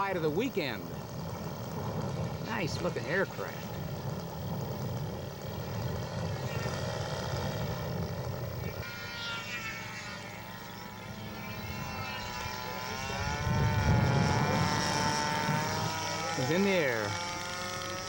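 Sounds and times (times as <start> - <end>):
model airplane engine and propeller: 0.0 - 18.0.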